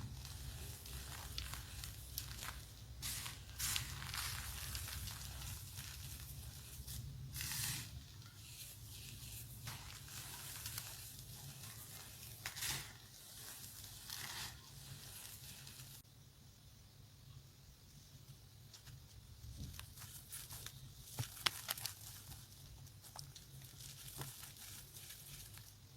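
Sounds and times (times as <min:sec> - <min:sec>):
chalk crunching and crumbling: 0:00.0 - 0:16.0, 0:18.8 - 0:25.9.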